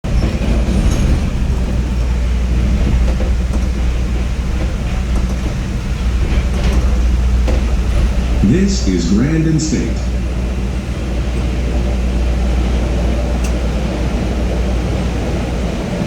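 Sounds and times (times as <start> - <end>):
subway train rumbling: 0.0 - 16.0
wheels clicking on track: 0.1 - 9.1, 10.0 - 16.0.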